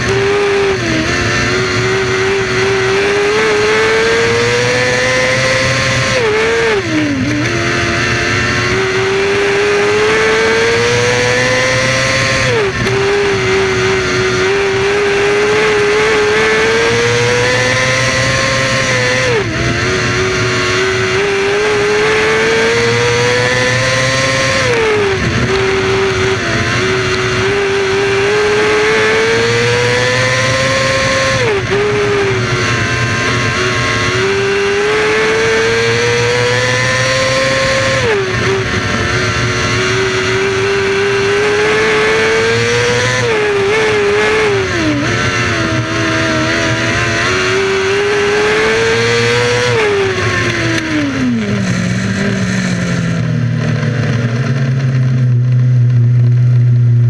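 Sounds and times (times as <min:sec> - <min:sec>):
wind noise: 0:00.0 - 0:51.7
racing car engine revving: 0:00.0 - 0:57.0.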